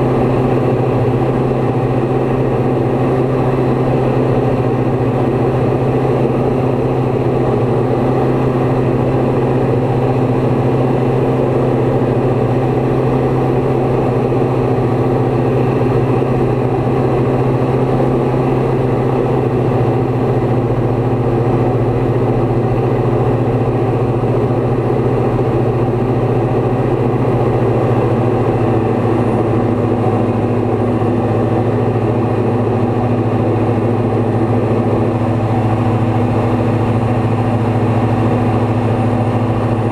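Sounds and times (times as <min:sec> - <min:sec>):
light aircraft engine in flight: 0:00.0 - 0:39.9.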